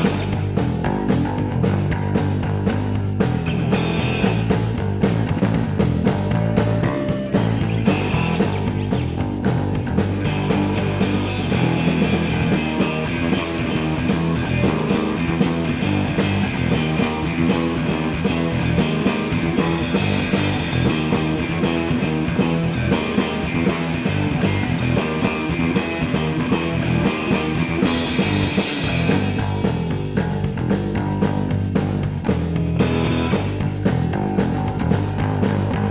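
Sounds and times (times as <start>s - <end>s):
instrumental rock music: 0.0s - 35.9s.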